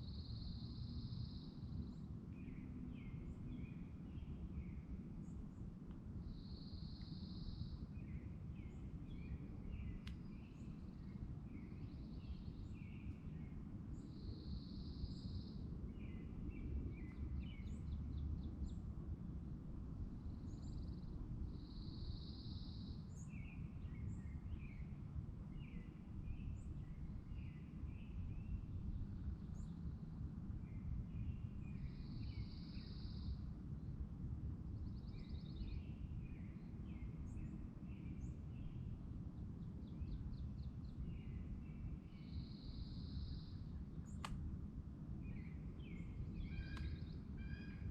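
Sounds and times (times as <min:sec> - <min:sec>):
songbirds singing: 0:00.0 - 0:19.0, 0:20.2 - 0:44.4, 0:45.0 - 0:47.9.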